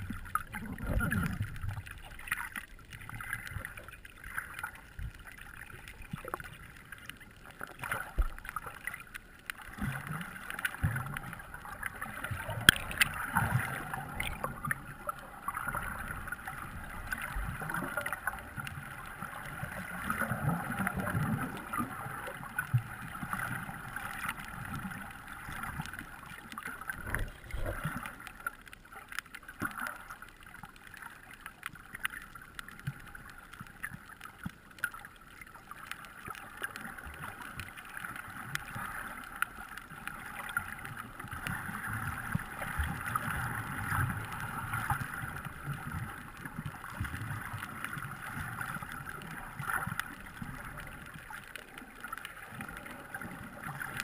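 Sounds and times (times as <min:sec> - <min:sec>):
muffled underwater water movement: 0:00.0 - 0:54.0.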